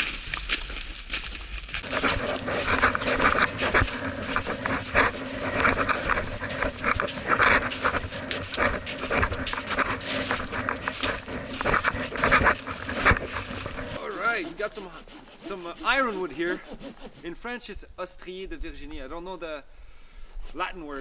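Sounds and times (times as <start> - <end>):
footsteps crunching in snow: 0.0 - 17.3.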